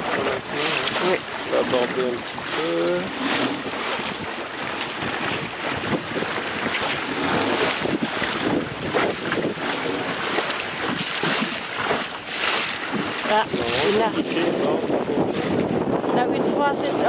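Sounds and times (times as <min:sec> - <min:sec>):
sea water rushing around boat: 0:00.0 - 0:17.0
wind buffeting microphone: 0:00.0 - 0:17.0.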